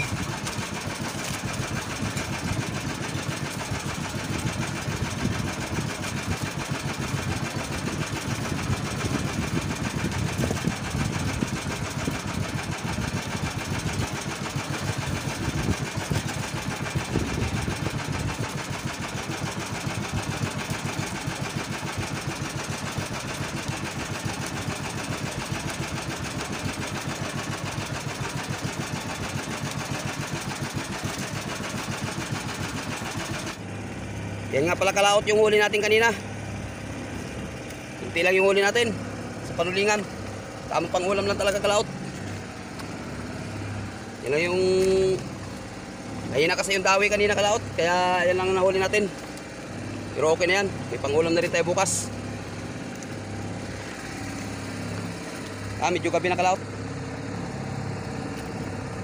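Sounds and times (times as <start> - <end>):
boat engine puttering: 0.0 - 59.0.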